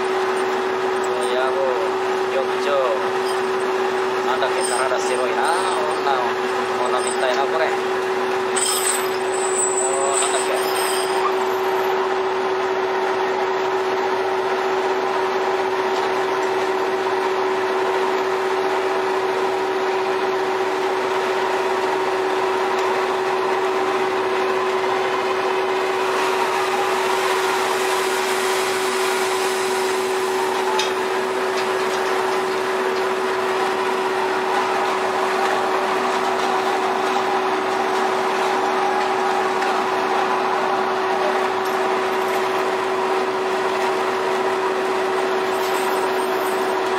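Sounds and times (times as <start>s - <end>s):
ship machinery drone: 0.0s - 46.9s.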